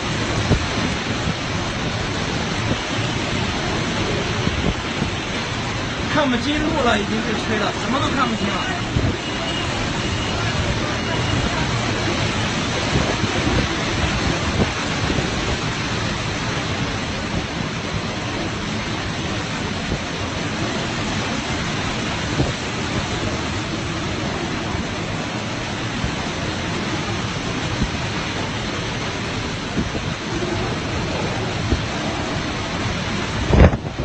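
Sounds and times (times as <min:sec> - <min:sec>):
storm wind buffeting microphone: 0:00.0 - 0:34.0.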